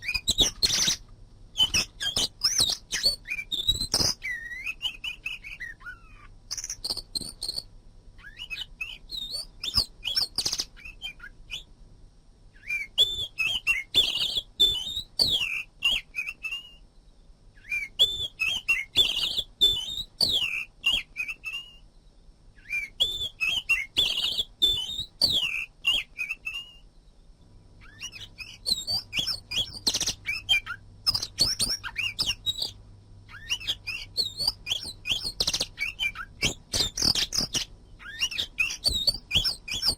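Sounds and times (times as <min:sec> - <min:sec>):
songbird singing: 0:00.0 - 0:11.8, 0:12.5 - 0:39.9.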